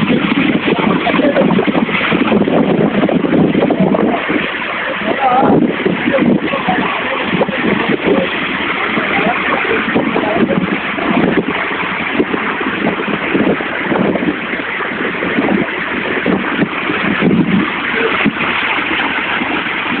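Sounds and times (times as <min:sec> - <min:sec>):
waterfall rushing onto rocks: 0:00.0 - 0:20.0
wind buffeting microphone: 0:00.0 - 0:20.0.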